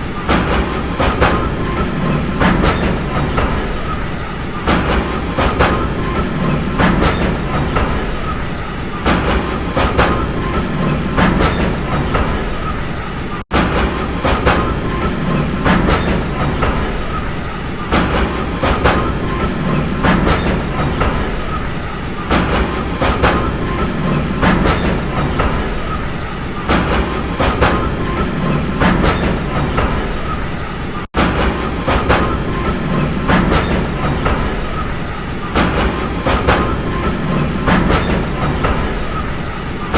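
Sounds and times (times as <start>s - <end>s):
train rumbling along track: 0.0s - 39.9s
wheels clacking over rail joints: 0.0s - 39.9s.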